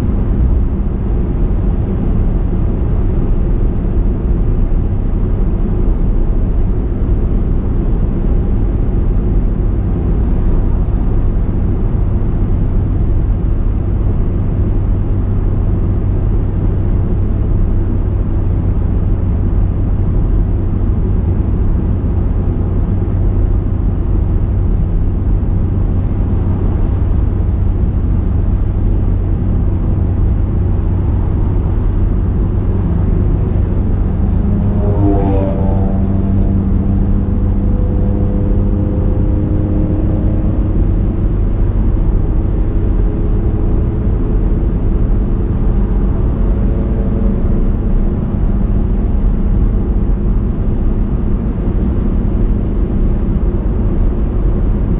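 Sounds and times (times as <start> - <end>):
car driving rumble: 0.0 - 54.9.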